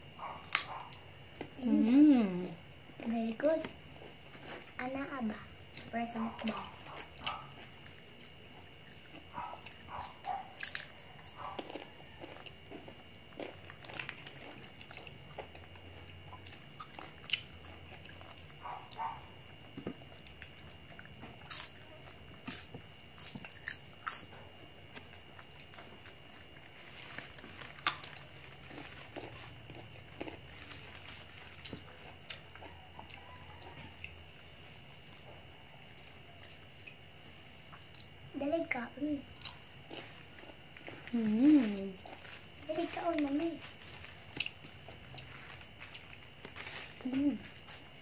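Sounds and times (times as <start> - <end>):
person crunching green mango: 0.2 - 1.7, 5.6 - 38.2, 39.3 - 48.0.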